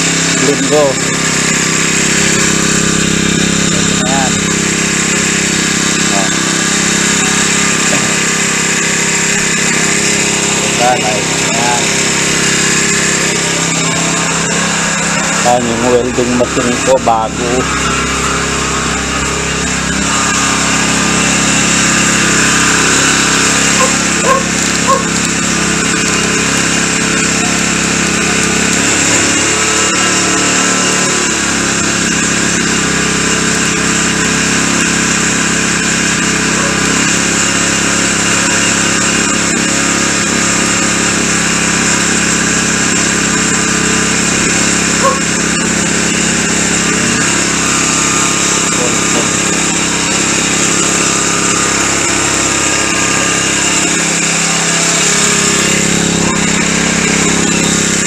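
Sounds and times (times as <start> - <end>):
small motor running: 0.0 - 58.0.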